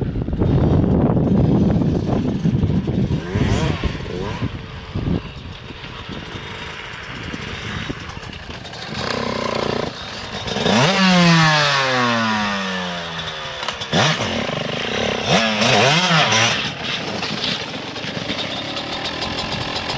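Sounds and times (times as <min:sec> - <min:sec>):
two-stroke motorbike engine revving: 0:00.9 - 0:19.9.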